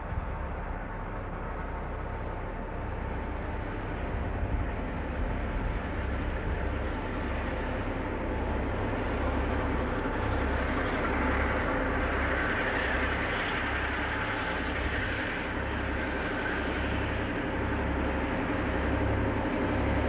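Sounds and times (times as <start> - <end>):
locomotive engine throbbing: 0.0 - 20.0.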